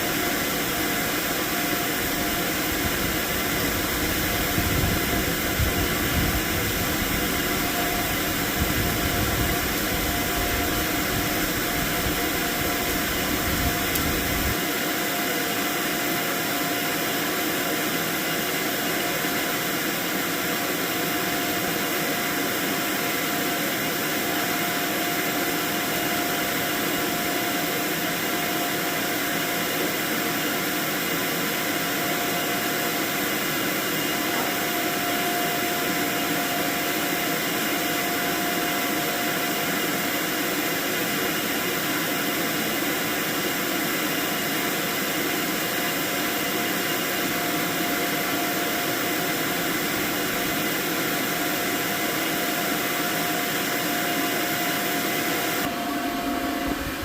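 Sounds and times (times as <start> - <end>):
fan rushing noise: 0.0 - 57.0.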